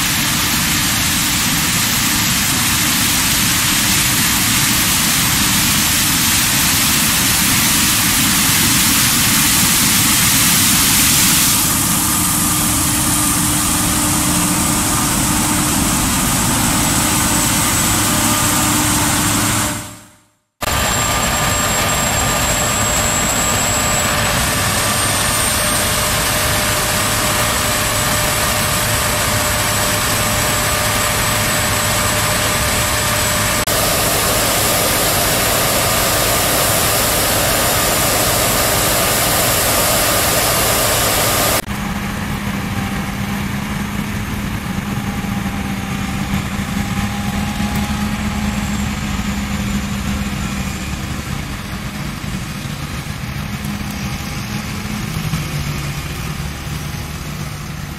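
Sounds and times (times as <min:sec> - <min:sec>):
combine harvester engine and machinery drone: 0:00.0 - 0:57.9
high constant whine: 0:00.0 - 0:57.9.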